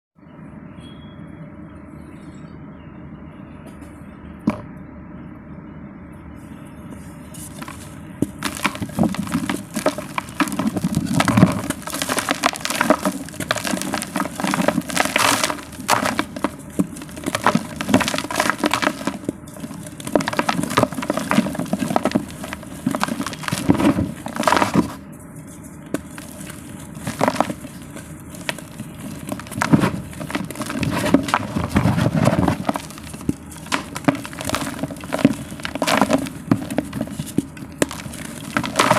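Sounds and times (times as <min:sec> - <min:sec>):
low steady hum: 0:00.2 - 0:38.9
dry clay crumbling: 0:07.3 - 0:38.9.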